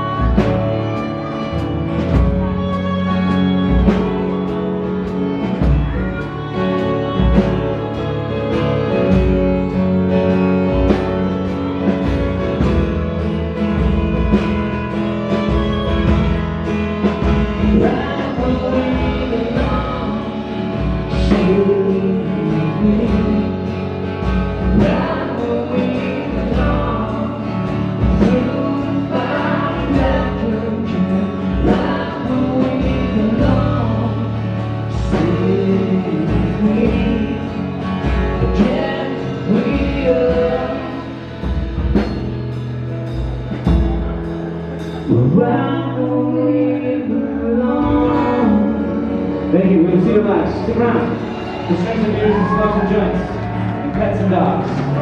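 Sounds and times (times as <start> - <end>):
person singing: 0.0 - 42.2, 44.8 - 55.0
drums: 0.0 - 55.0
guitars: 0.0 - 55.0.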